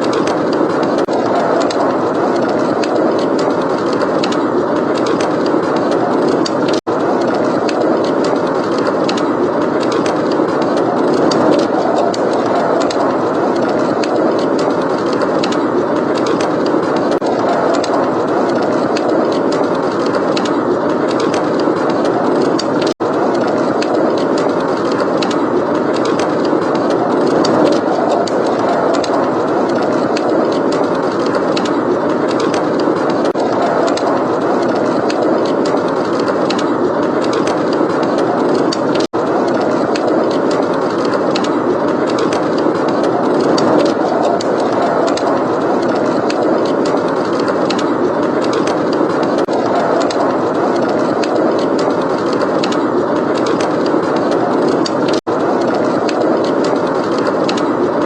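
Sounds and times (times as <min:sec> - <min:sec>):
blizzard wind blowing: 0:00.0 - 0:58.0
wood fire crackling: 0:00.0 - 0:58.0.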